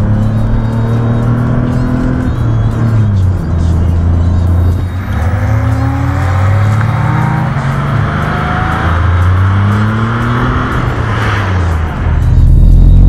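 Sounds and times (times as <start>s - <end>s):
car engine accelerating: 0.0s - 13.0s
wind and road noise: 0.0s - 13.0s.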